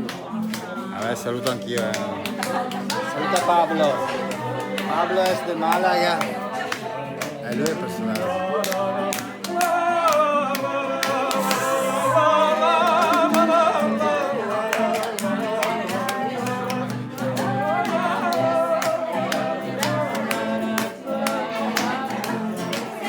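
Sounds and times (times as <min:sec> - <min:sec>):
person singing with vibrato: 0:00.0 - 0:23.0
sharp rhythmic taps: 0:00.0 - 0:23.0.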